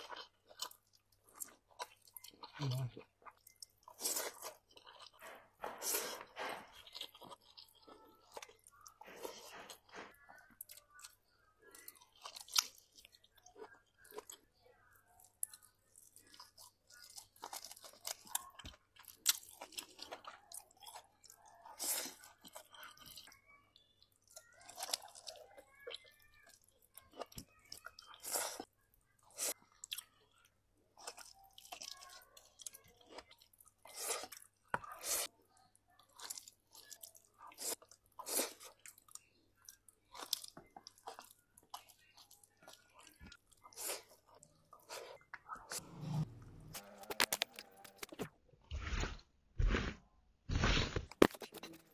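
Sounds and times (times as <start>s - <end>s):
person chewing and mouth smacks: 0.0s - 45.8s.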